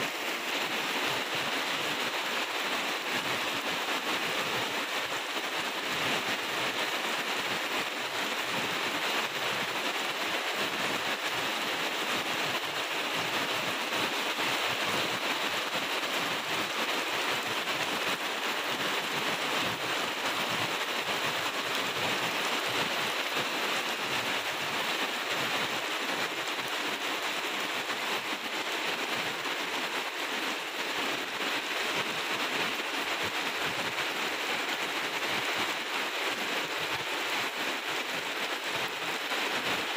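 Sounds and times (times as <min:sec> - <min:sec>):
heavy rain on grass and leaves: 0:00.0 - 0:39.9.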